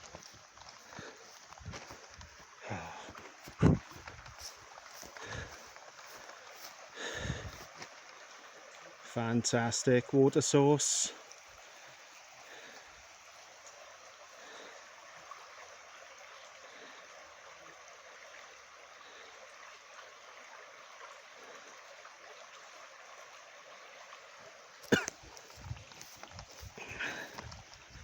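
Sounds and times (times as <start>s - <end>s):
small stream running: 0.0s - 28.0s.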